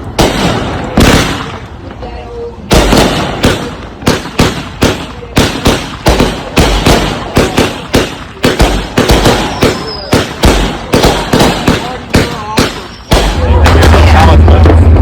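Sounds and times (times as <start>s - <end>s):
fireworks bangs with echo: 0.0s - 15.0s.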